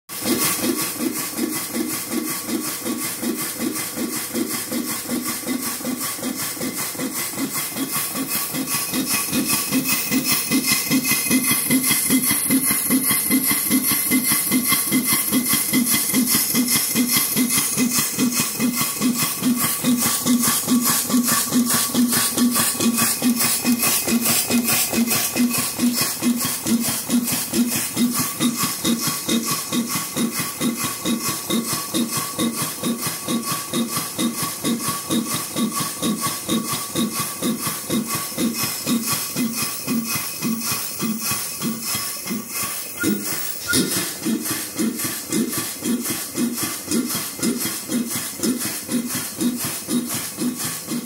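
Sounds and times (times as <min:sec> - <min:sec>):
steam engine beating: 0:00.1 - 0:51.0.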